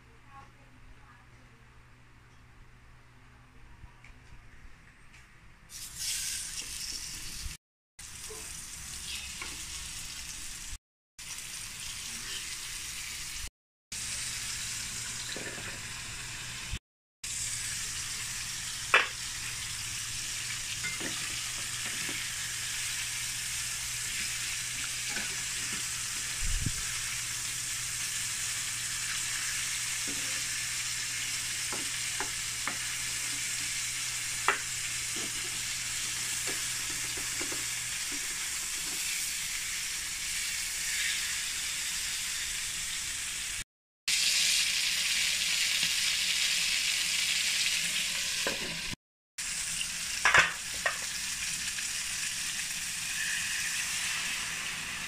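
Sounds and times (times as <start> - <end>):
chicken sizzling in hot oil: 5.7 - 55.0.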